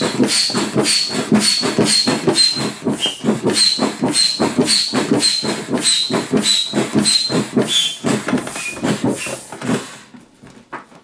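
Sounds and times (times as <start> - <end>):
pump squeak: 0.0 - 9.8
air pump strokes: 0.0 - 10.2.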